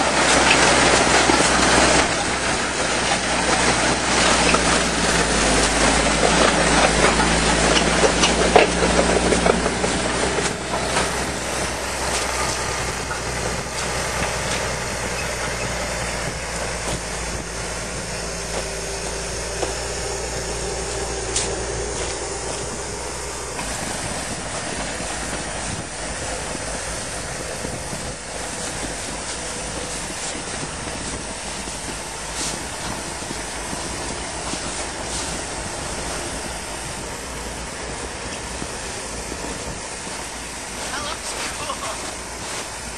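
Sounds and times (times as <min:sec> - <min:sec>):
rough mechanical noise: 0:00.0 - 0:42.9
tracked vehicle engine rumbling: 0:00.0 - 0:42.9.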